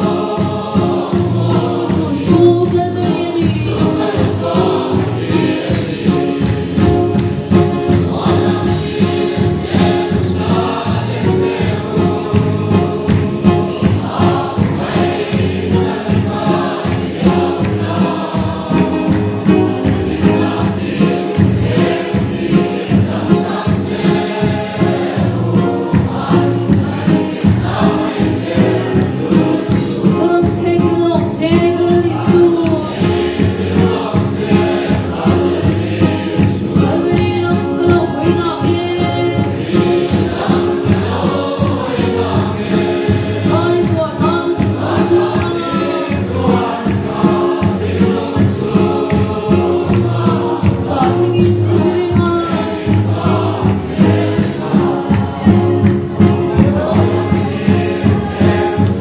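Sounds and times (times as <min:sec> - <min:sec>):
congregation singing a hymn: 0:00.0 - 0:59.0
steady drumbeat: 0:00.0 - 0:59.0.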